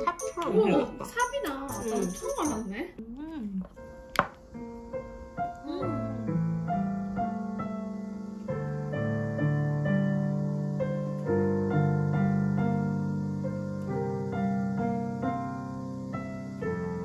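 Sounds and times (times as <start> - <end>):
gentle slow piano: 0.0 - 17.0.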